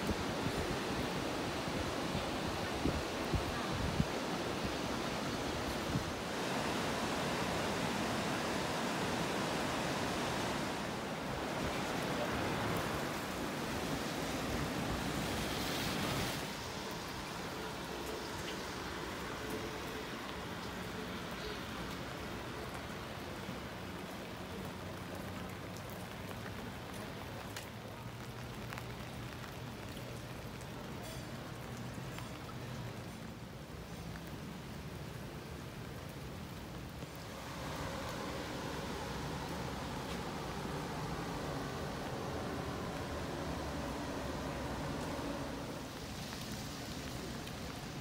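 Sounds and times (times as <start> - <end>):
rain on wet pavement: 0.0 - 48.0
river water rushing: 0.0 - 48.0.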